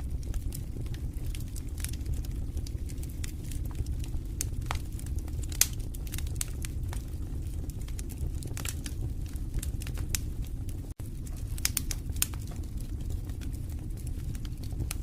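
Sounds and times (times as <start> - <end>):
fireplace fire crackling and popping: 0.0 - 15.0.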